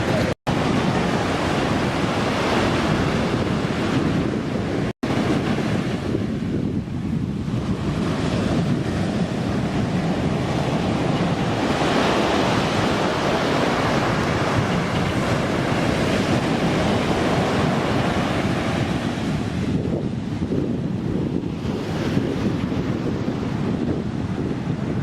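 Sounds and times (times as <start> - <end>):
surf breaking on a beach: 0.0 - 25.0
wind buffeting the microphone: 0.0 - 25.0.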